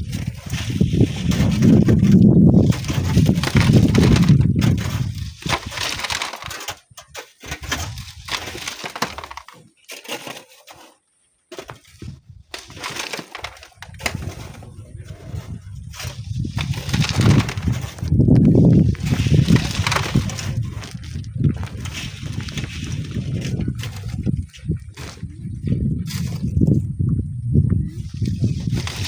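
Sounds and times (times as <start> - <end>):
wind rumble on microphone: 0.0 - 8.7, 11.8 - 29.0
sand and stones crunching: 0.0 - 26.9, 27.8 - 29.0.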